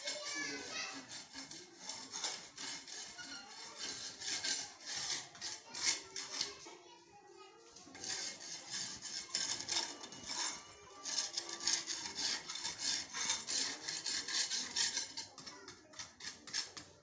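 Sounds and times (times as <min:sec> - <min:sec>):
tool scraping concrete floor: 0:00.0 - 0:17.0.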